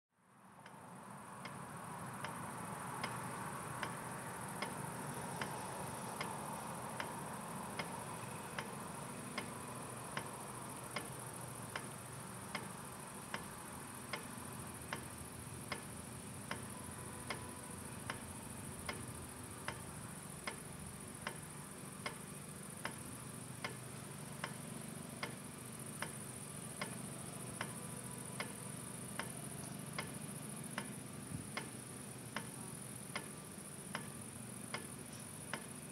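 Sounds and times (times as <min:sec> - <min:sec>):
crickets chirring: 0:00.4 - 0:35.9.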